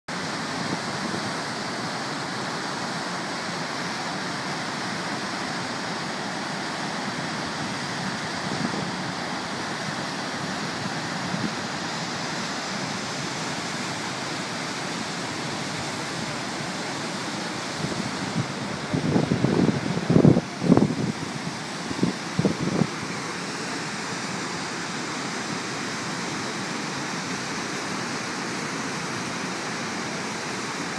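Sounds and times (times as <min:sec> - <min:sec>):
water rushing over rocks: 0:00.1 - 0:30.9.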